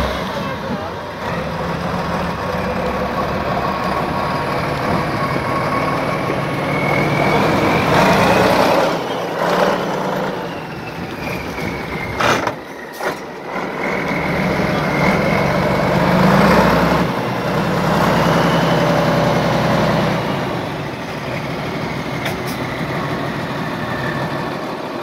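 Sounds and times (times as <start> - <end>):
truck diesel engine under load: 0.0 - 25.0.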